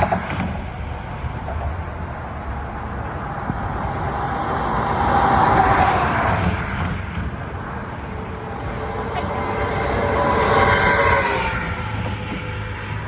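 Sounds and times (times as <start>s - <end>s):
highway traffic road noise: 0.0s - 13.0s
passing vehicle tyre whine: 0.0s - 13.0s.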